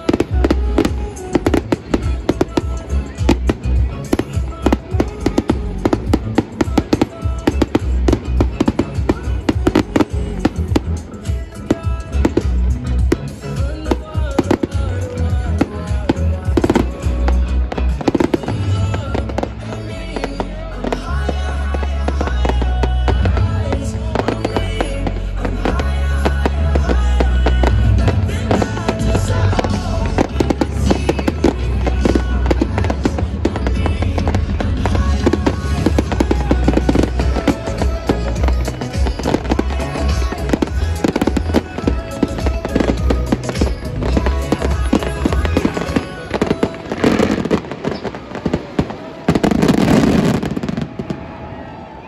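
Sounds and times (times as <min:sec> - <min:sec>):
loud music with heavy bass: 0:00.0 - 0:51.1
fireworks bangs and crackling: 0:00.0 - 0:52.0.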